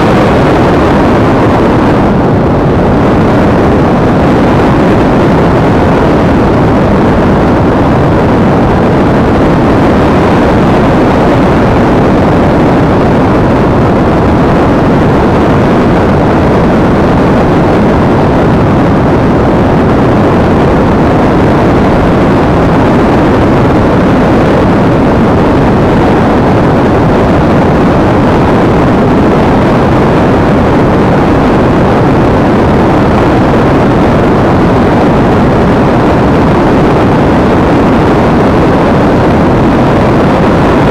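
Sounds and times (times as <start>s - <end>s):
airflow rushing over camera: 0.0s - 40.9s.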